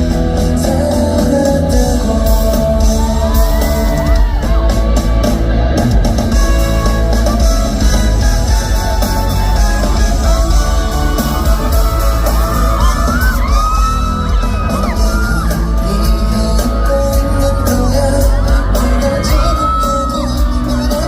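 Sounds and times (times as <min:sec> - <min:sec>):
fans yelling and whooping: 0:00.0 - 0:21.0
live pop band playing: 0:00.0 - 0:21.0.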